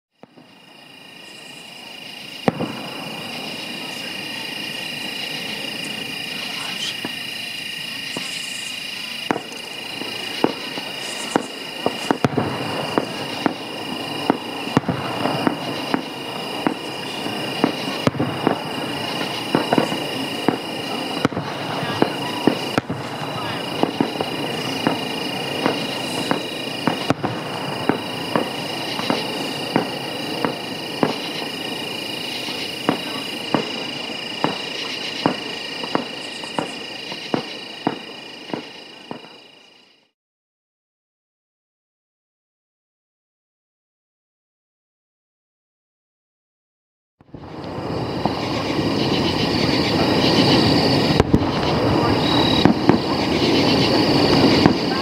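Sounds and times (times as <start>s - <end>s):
firework shells bursting: 0.2s - 39.5s, 47.3s - 55.0s
night insects droning: 0.2s - 40.2s, 47.3s - 55.0s.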